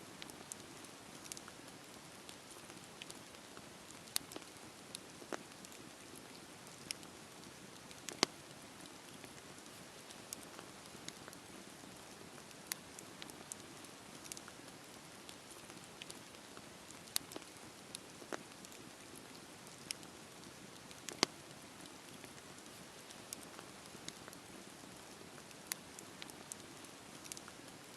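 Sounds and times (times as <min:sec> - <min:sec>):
campfire hissing and crackling: 0:00.0 - 0:27.9.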